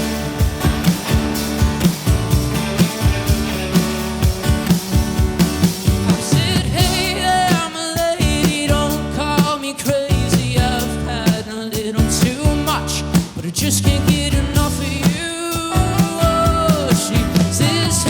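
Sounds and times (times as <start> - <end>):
live rock band playing: 0.0 - 18.0
steady drum beat: 0.0 - 18.0.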